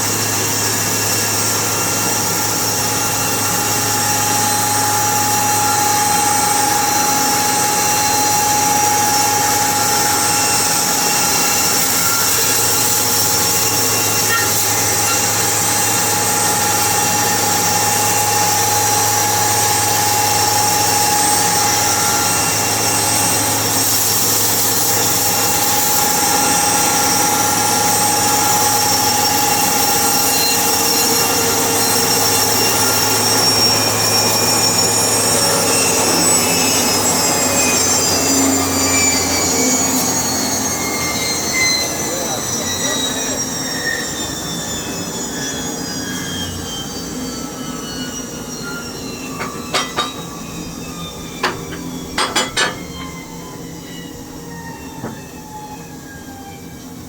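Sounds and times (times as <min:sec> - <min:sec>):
machine whine: 0:00.0 - 0:57.0
sawmill machinery droning: 0:00.0 - 0:57.0.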